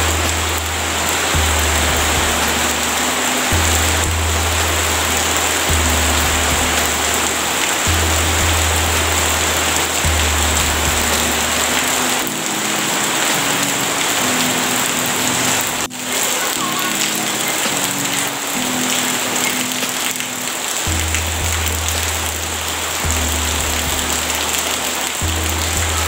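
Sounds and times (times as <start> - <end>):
music of sustained low notes: 0.0 - 16.2, 16.9 - 26.0
rain on wet paving stones: 0.0 - 26.0.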